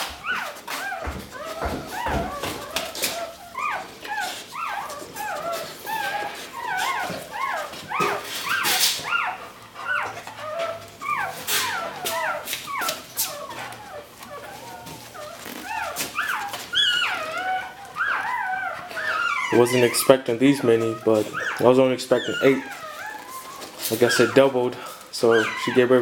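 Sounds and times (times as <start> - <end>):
puppies squeaking and crying: 0.0 - 26.0.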